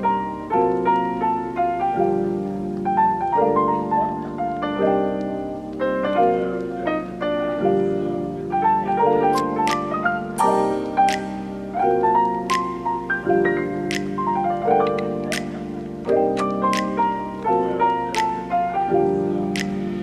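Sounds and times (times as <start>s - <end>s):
gentle piano and harp melody: 0.0s - 20.0s.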